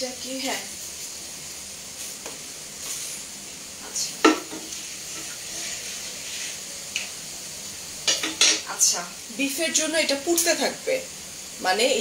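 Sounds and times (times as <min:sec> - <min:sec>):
spices sizzling in oil: 0:00.0 - 0:12.0.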